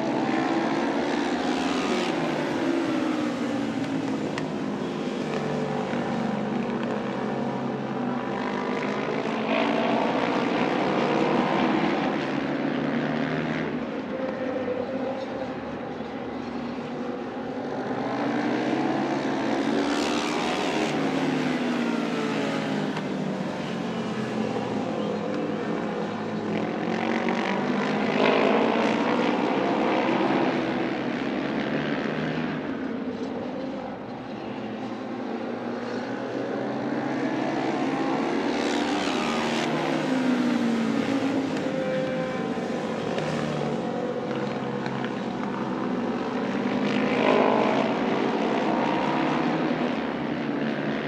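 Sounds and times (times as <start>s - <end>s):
racing motorcycle engines: 0.0s - 51.0s.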